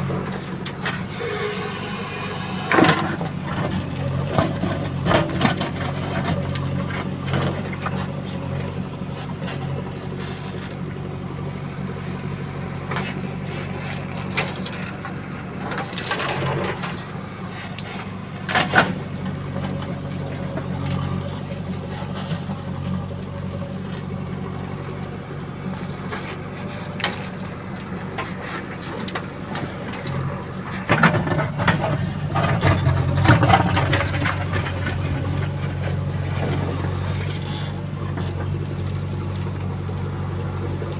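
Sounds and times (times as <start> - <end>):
diesel engine running: 0.0 - 40.9
machine and bucket rattling: 0.0 - 40.9.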